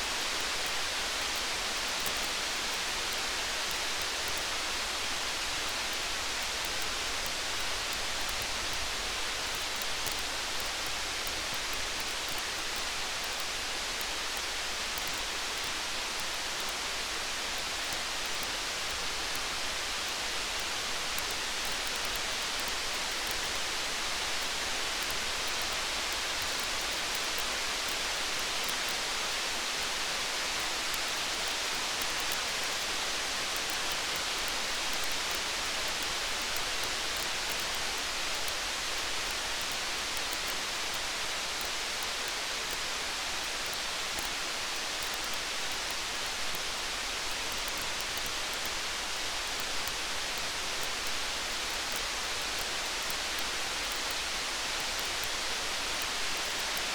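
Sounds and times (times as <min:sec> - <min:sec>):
steady rain: 0:00.0 - 0:56.9.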